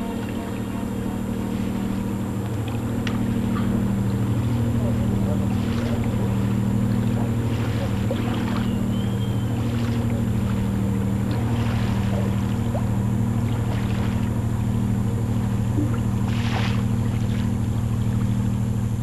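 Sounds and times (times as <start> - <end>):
ship engine droning: 0.0 - 19.0.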